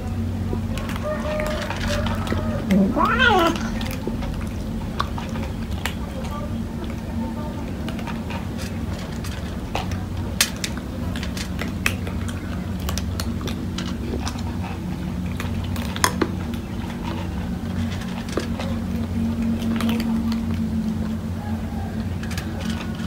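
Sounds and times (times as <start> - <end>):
cats crunching kibble: 0.0 - 23.0
steady low hum: 0.0 - 23.0
kibble clicking on metal: 0.4 - 21.2.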